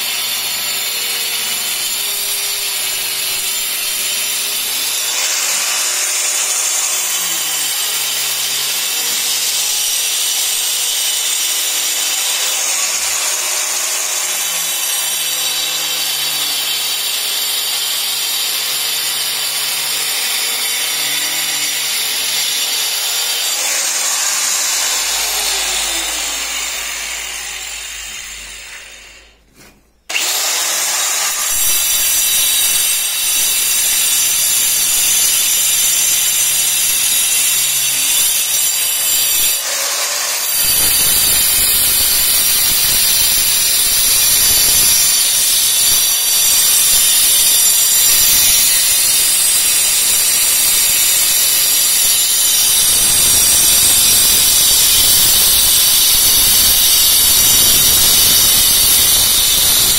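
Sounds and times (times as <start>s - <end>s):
angle grinder cutting brick: 0.0s - 59.9s.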